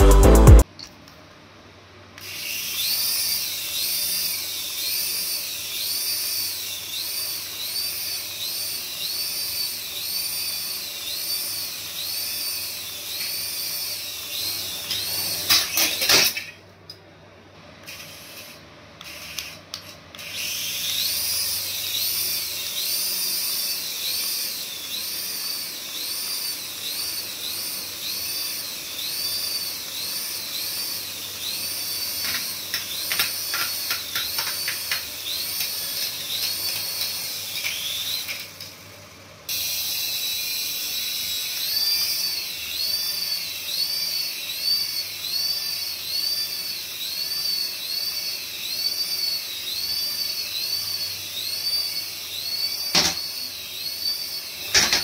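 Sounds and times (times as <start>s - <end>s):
toy helicopter motors whining: 2.2s - 16.6s, 17.8s - 55.0s.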